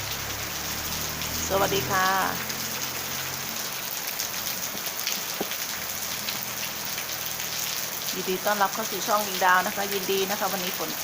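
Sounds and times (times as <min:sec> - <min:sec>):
rain drop ticks: 0:00.0 - 0:11.0
steady rain falling: 0:00.0 - 0:11.0.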